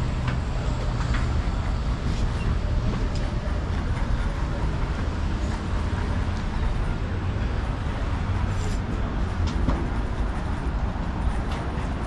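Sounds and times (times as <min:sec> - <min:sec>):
steady low street rumble: 0:00.0 - 0:12.0.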